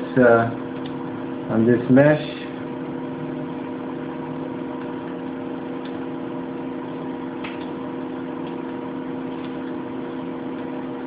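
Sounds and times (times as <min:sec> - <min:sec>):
computer cooling fan humming: 0:00.0 - 0:11.0.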